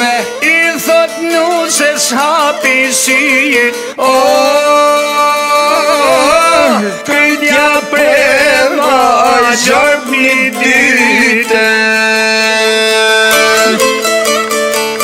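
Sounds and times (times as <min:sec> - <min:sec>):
plucked lute folk music: 0:00.0 - 0:15.0.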